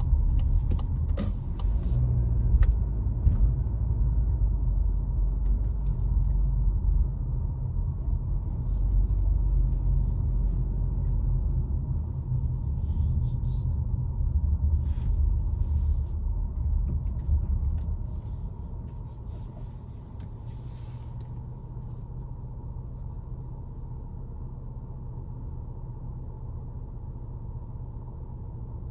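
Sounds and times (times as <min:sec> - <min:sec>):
car engine and tyre rumble: 0:00.0 - 0:28.9.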